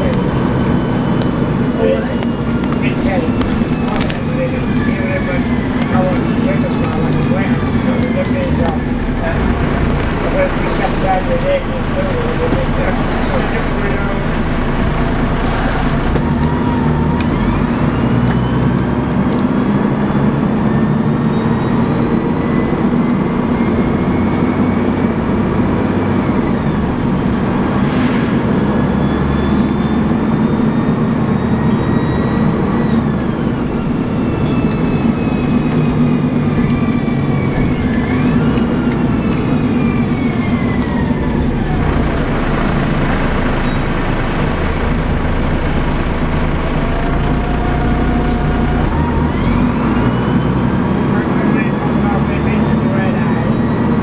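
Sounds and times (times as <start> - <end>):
bus engine humming: 0.0 - 54.0.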